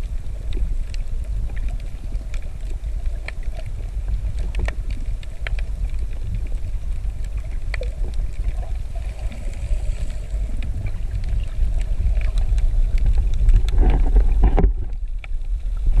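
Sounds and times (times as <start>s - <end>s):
sharp underwater clicks and crackles: 0.0s - 16.0s
underwater water rumble: 0.0s - 16.0s
water splashing: 0.8s - 15.6s.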